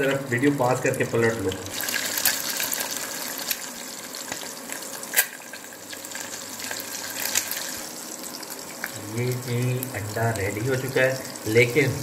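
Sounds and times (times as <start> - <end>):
egg sizzling in oil: 0.0 - 12.0.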